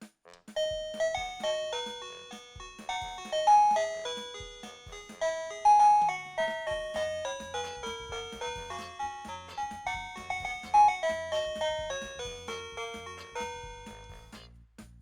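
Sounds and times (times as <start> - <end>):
electronic doorbell chime melody: 0.6 - 14.2.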